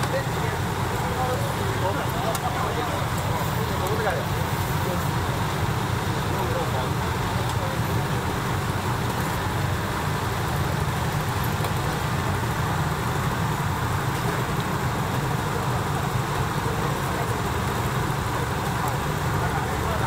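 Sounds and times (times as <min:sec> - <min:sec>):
low rumble of street noise: 0:00.0 - 0:20.0.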